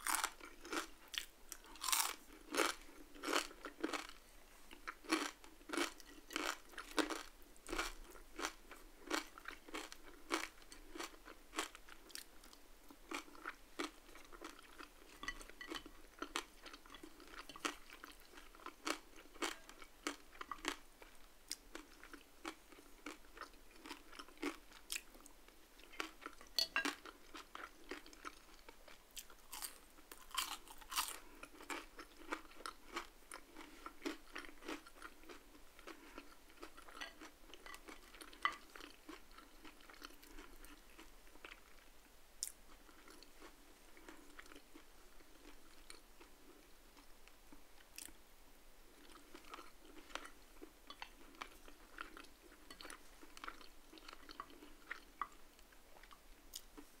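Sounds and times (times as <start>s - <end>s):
chewing crispy food: 0.0s - 48.2s, 48.9s - 56.9s.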